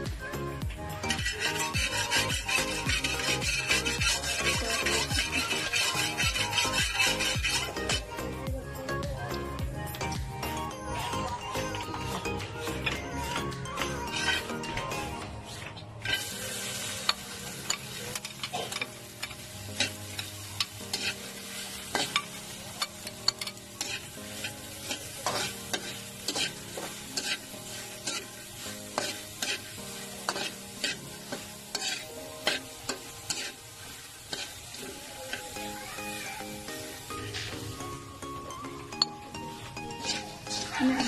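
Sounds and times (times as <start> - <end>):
okra sizzling in hot oil: 0.0 - 8.8, 11.0 - 41.0
metal spatula scraping a wok: 0.9 - 8.3, 10.9 - 35.8, 39.0 - 41.0.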